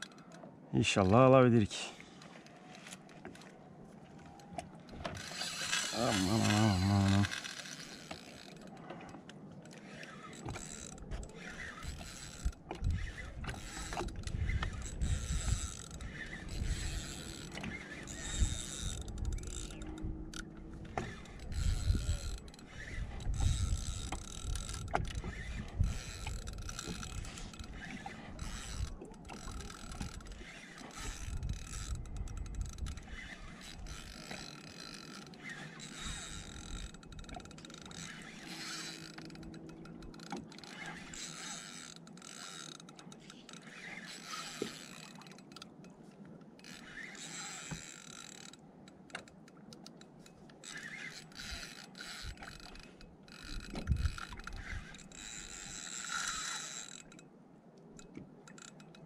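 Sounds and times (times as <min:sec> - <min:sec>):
fishing reel gears whirring: 0:00.0 - 0:00.5, 0:02.2 - 0:03.5, 0:04.2 - 0:45.9, 0:46.6 - 0:57.3, 0:58.0 - 0:59.0.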